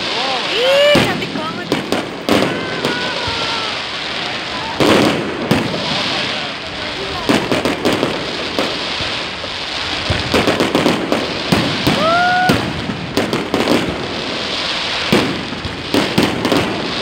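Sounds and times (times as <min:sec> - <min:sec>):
firework shells bursting: 0:00.0 - 0:17.0
fireworks crackling hiss: 0:00.0 - 0:17.0
rising firework whistle: 0:00.0 - 0:17.0.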